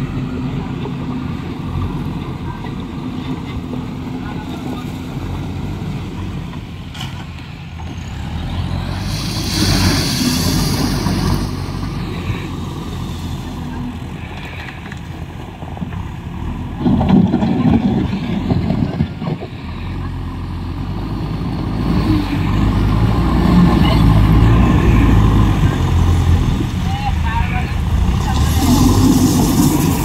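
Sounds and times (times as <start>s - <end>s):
diesel engine running: 0.0s - 30.0s
tyres rolling over gravel: 0.4s - 21.0s, 22.4s - 30.0s.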